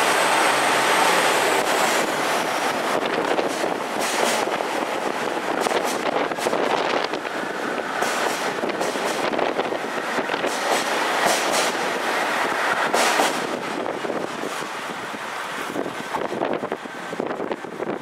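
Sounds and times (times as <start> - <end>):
train wheels rumbling on rails: 0.0 - 18.0
wind noise on microphone: 1.3 - 18.0.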